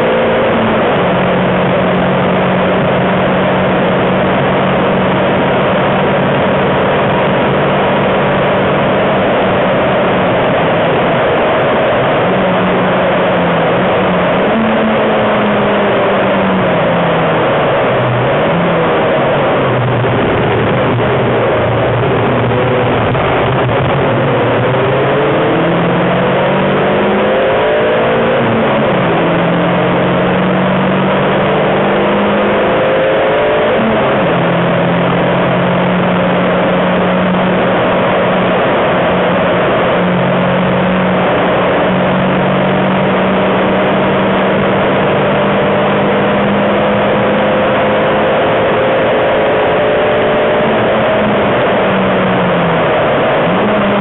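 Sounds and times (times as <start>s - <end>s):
car engine revving through gears: 0.0s - 54.0s
road and wind noise: 0.0s - 54.0s.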